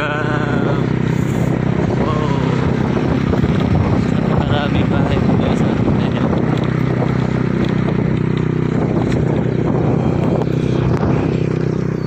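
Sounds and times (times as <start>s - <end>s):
road noise: 0.0s - 12.0s
vehicle engine running: 0.0s - 12.0s
wind noise: 0.0s - 12.0s.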